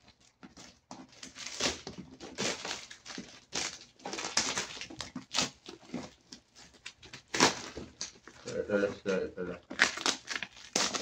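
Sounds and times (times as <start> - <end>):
plastic wrapping and tape crinkling: 0.0 - 11.0.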